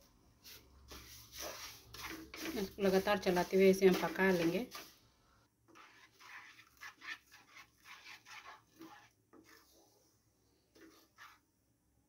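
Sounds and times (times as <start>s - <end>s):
wooden spatula scraping a pan: 0.4s - 11.6s.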